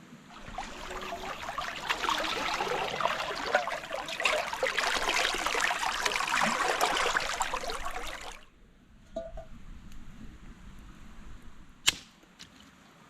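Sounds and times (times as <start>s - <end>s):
water trickling and gurgling: 0.3s - 11.8s.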